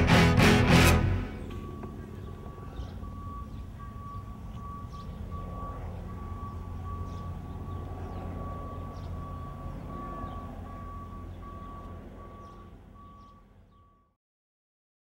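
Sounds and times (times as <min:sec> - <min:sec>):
low engine rumble: 0:00.0 - 0:14.1
reversing alarm beeping: 0:00.0 - 0:14.2.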